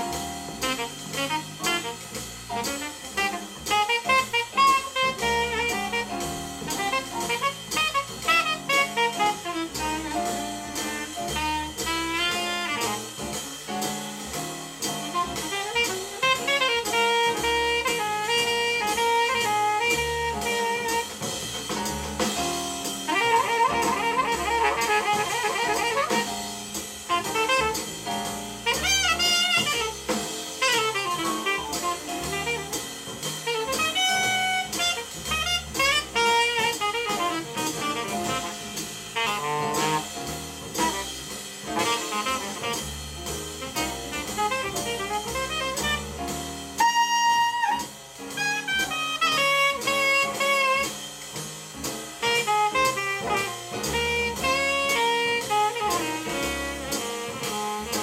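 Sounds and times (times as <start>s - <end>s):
saxophone soloing: 0.0s - 13.6s, 15.0s - 51.2s, 52.2s - 58.0s
jazz drums: 0.0s - 58.0s.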